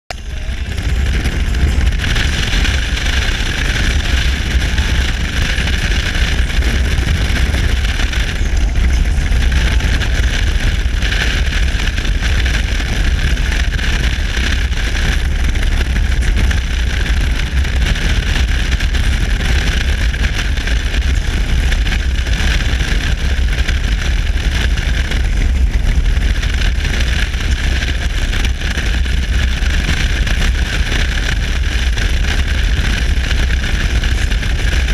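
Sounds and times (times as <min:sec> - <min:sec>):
motorcycle running: 0:00.0 - 0:34.9
wind and road noise hiss: 0:00.1 - 0:34.9
wind rumble on microphone: 0:00.1 - 0:34.9.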